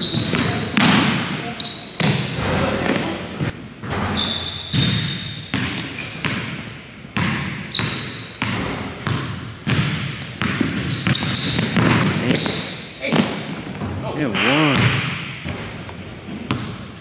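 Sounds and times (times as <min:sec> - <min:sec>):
basketball bouncing on hardwood floor: 0:00.0 - 0:01.4, 0:03.8 - 0:06.6, 0:07.2 - 0:16.9
sneakers squeaking on court: 0:00.0 - 0:17.0.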